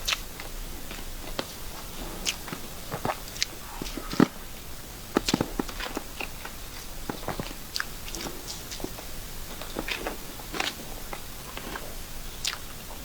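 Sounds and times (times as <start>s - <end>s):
wet chewing mouth sounds: 0.0s - 13.0s.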